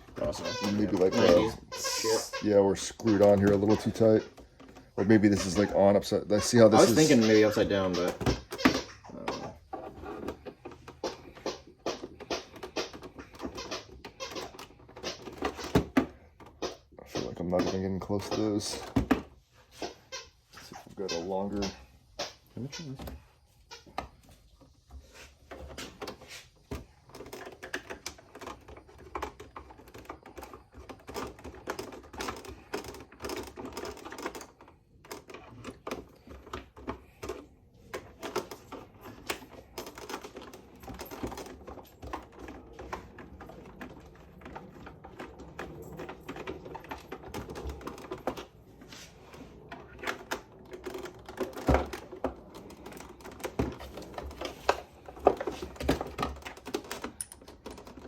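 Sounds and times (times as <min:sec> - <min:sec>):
small tools and plastic parts rattling: 0:00.0 - 0:58.0.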